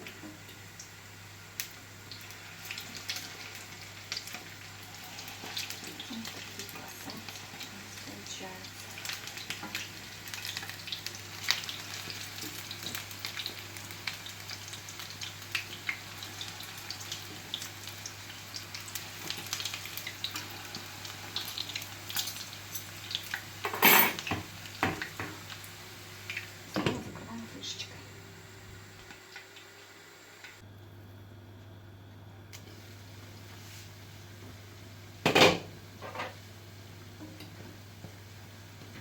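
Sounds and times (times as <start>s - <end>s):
batter sizzling in frying pan: 0.0s - 30.6s, 32.6s - 39.0s.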